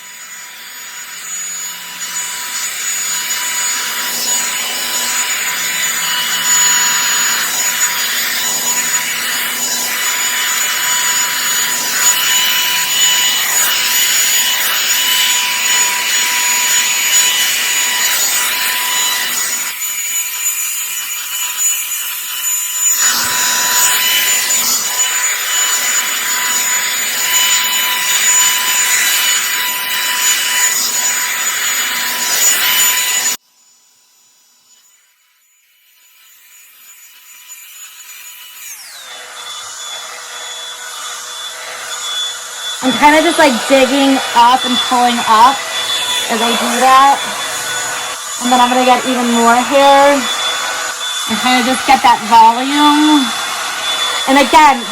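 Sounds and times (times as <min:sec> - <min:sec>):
hot-air brush dryer running: 0:00.0 - 0:21.7, 0:22.4 - 0:33.4, 0:38.8 - 0:54.9.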